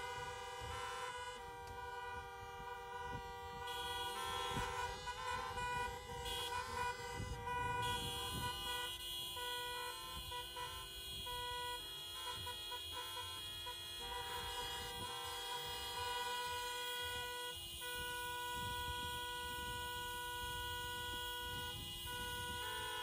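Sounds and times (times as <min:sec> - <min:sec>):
car horns honking: 0:00.0 - 0:23.0.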